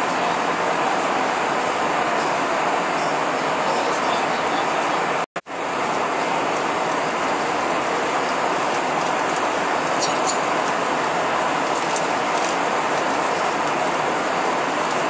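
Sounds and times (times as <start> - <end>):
turbofan engines: 0.0 - 15.0.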